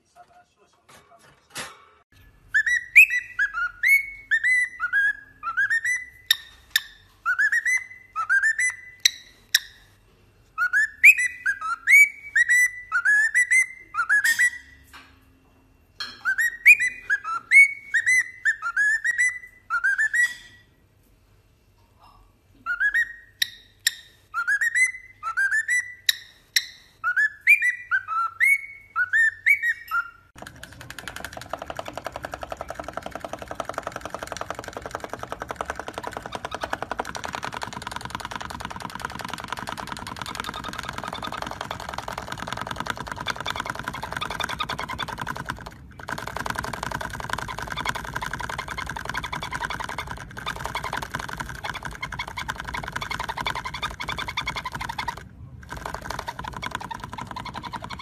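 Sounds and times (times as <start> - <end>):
cockatiel whistling: 2.5 - 9.9, 10.6 - 14.8, 16.1 - 20.7, 22.6 - 30.3, 34.2 - 45.6, 46.4 - 58.0.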